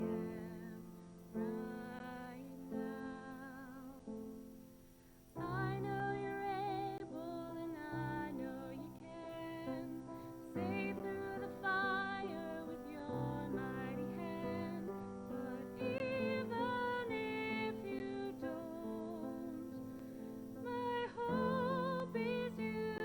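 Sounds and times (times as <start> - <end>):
woman singing with vibrato: 0.0 - 4.1, 5.4 - 23.0
soft musical accompaniment: 0.0 - 23.0.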